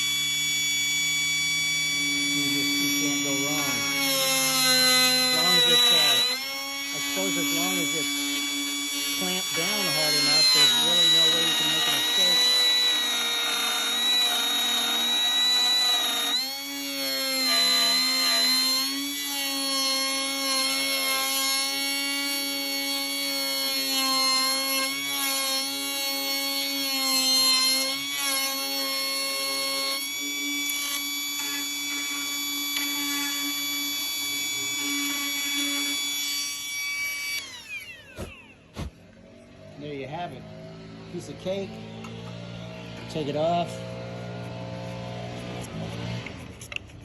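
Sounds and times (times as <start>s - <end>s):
router winding down: 0.0s - 46.9s
router whining cutting wood: 0.0s - 47.0s.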